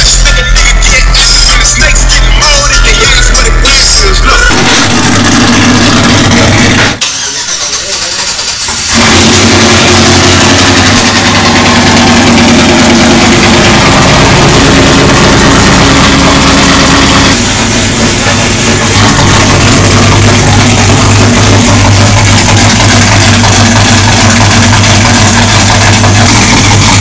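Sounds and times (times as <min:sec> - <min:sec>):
pickup truck engine starting: 0:00.0 - 0:27.0.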